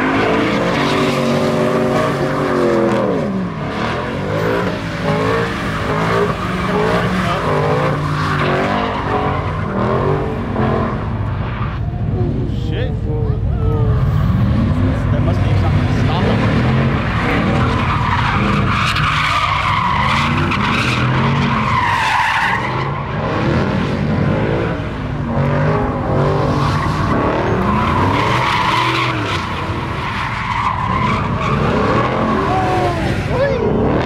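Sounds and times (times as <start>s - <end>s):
engines revving: 0.0s - 34.0s
tires squealing: 0.0s - 34.0s.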